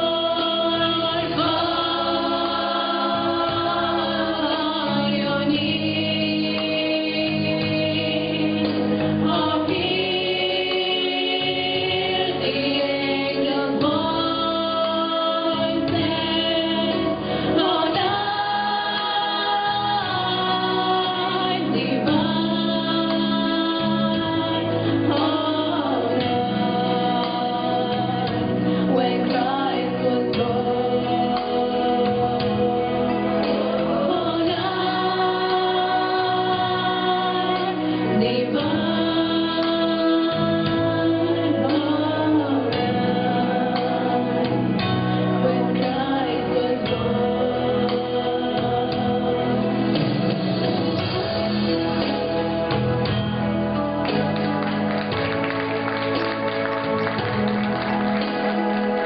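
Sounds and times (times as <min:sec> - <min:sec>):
women singing a religious song: 0:00.0 - 0:51.2
musical accompaniment: 0:00.0 - 0:59.0.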